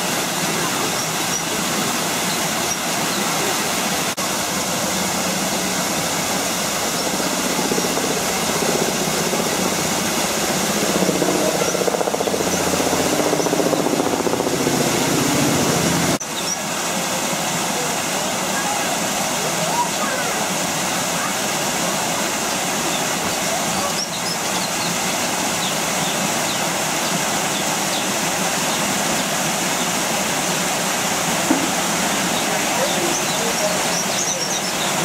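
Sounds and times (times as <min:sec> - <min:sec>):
small waterfall rushing: 0:00.0 - 0:35.0.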